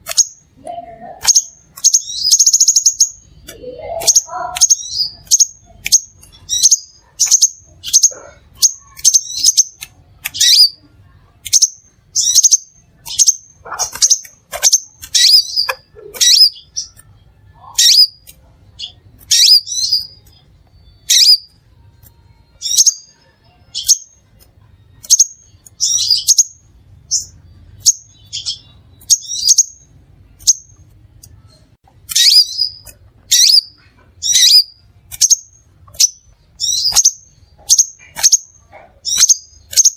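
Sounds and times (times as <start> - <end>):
bird chipping calls: 0.0 - 10.8, 11.4 - 17.0, 17.6 - 20.4, 25.0 - 30.8, 32.1 - 39.9.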